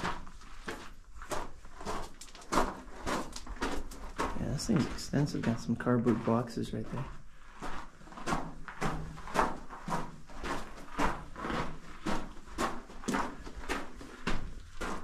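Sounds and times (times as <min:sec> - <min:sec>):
footsteps crunching on gravel: 0:00.0 - 0:15.0.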